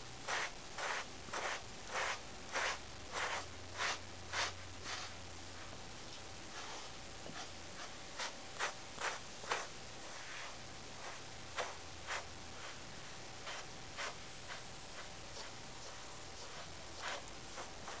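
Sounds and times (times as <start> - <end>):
brush stroking cat fur: 0.0 - 18.0.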